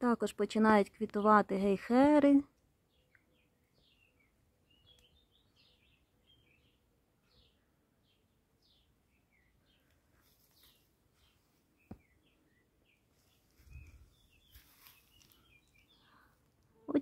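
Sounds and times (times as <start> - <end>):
small bird chirping: 2.6 - 17.0.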